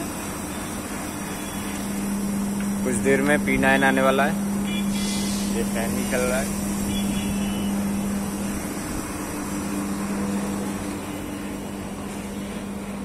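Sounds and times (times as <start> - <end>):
air conditioner unit humming: 0.0 - 13.0
condenser fan rushing: 0.0 - 13.0.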